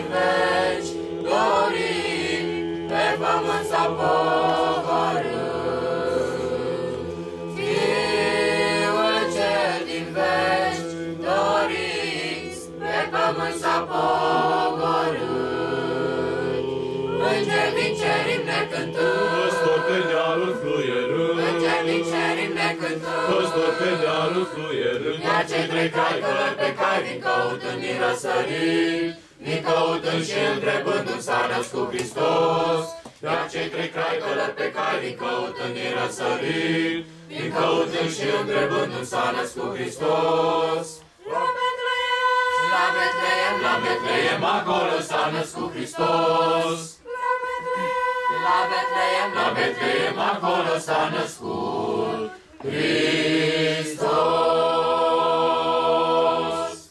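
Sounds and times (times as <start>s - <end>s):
group of young voices singing: 0.0s - 56.9s.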